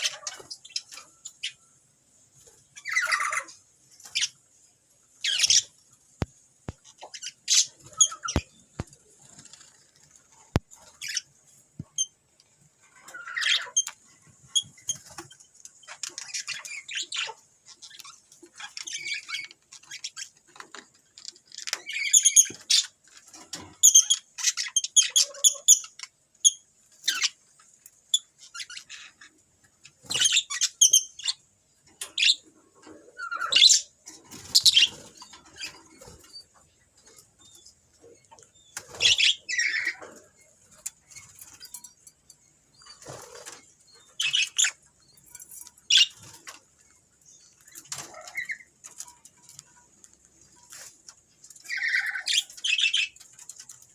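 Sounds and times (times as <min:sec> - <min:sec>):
parrots squawking and chirping: 0:00.0 - 0:01.8, 0:02.6 - 0:05.8, 0:06.7 - 0:09.8, 0:10.5 - 0:12.1, 0:12.8 - 0:31.4, 0:32.0 - 0:42.1, 0:42.7 - 0:49.7, 0:50.4 - 0:53.9.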